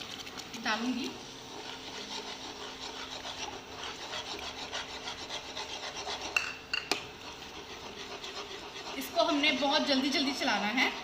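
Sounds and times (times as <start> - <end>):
spoon scraping and stirring in pan: 0.0 - 11.0.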